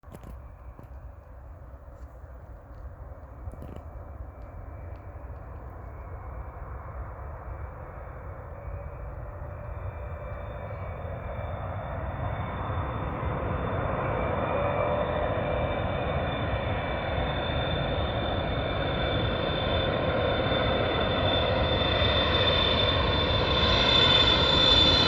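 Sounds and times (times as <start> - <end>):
airliner jet engines whining: 0.2 - 25.0.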